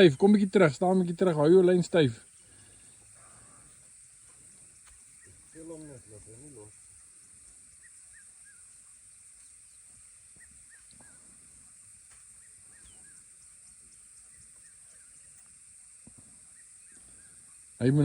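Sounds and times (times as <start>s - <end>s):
birds chirping: 0.0s - 18.0s
steady high hiss: 0.0s - 18.0s.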